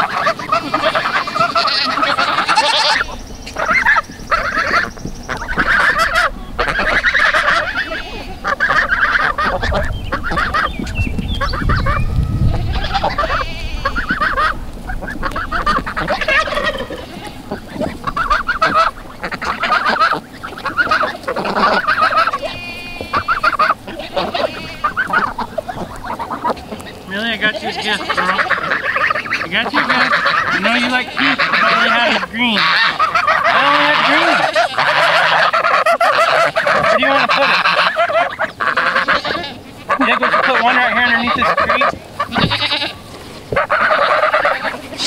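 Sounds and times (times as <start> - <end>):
geese honking: 0.0 - 45.0.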